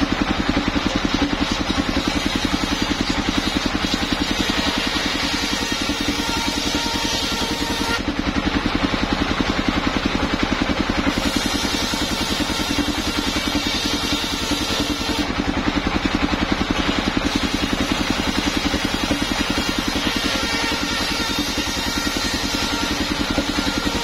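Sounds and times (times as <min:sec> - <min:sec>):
circular saw ripping wood: 0:00.0 - 0:08.1, 0:11.1 - 0:15.4, 0:16.6 - 0:24.0
sawmill engine pulsing: 0:00.0 - 0:24.0.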